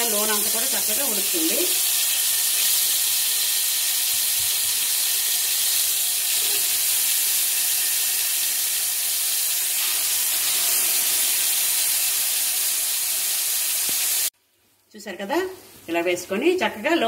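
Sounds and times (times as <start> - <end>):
chicken sizzling in oil: 0.0 - 14.3.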